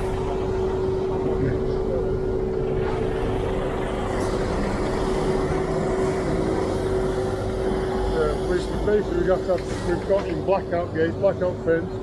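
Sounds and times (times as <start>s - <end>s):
lorry diesel engine rumbling: 0.0s - 12.0s.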